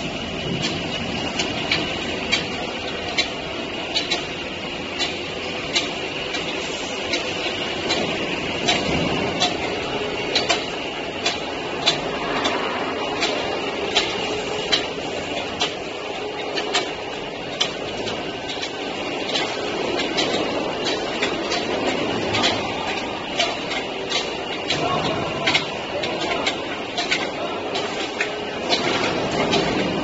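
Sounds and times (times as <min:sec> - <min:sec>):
machine noise: 0:00.0 - 0:30.0.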